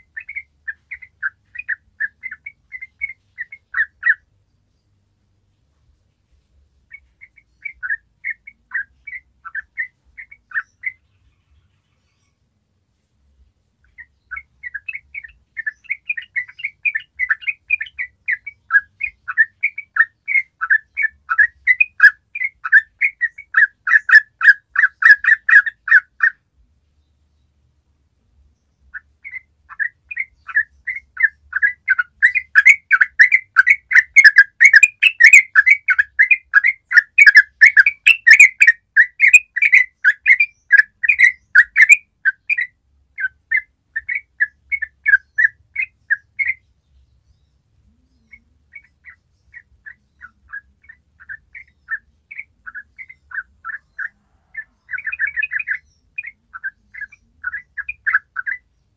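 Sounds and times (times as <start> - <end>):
bird singing fast notes: 0.0 - 4.3, 6.9 - 12.4, 13.8 - 26.4, 28.8 - 46.8, 47.9 - 58.9.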